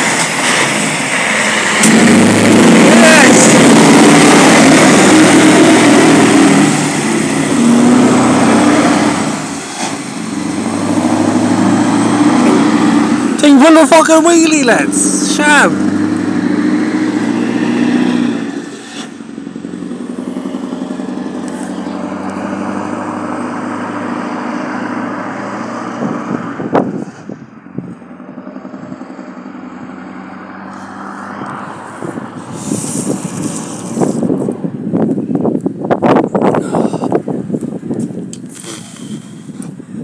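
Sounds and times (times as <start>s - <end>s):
truck engine pulling away: 0.0s - 39.8s
road and traffic noise: 0.0s - 40.0s.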